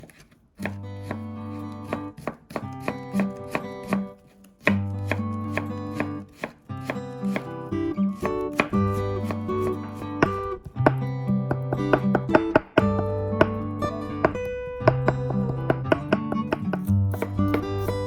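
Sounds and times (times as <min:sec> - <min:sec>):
knife chopping on cutting board: 0:00.0 - 0:07.6, 0:08.2 - 0:18.0
plucked guitar background music: 0:00.7 - 0:18.0.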